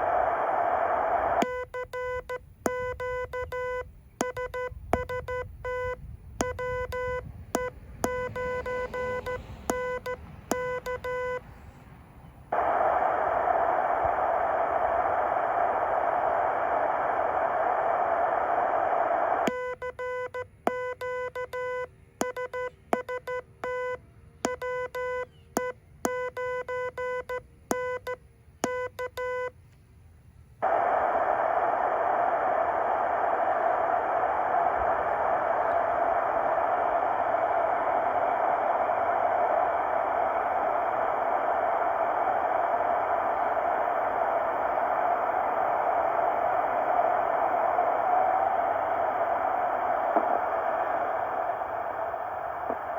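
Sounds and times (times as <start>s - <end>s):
radio receiver hiss: 0.0s - 20.3s, 30.6s - 52.9s.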